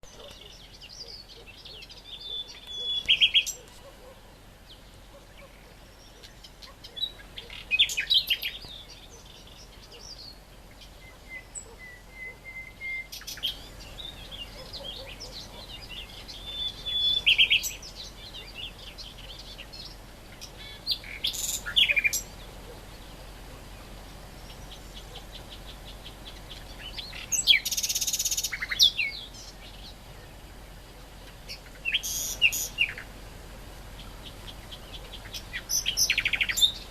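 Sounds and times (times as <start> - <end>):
warbler singing chattering phrases: 0.0 - 36.9.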